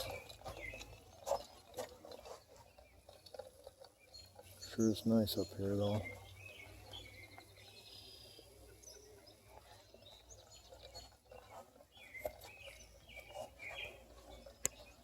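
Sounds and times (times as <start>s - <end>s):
birds chirping faintly: 0.0s - 15.0s
outdoor background noise: 0.0s - 15.0s.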